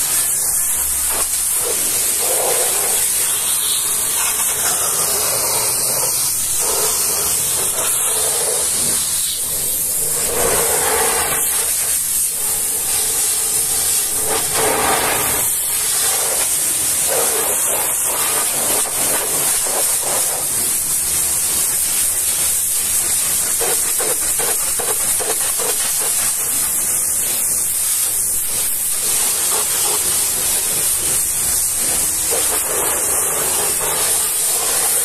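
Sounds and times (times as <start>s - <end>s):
pressure washer spray hissing: 0.0s - 35.0s.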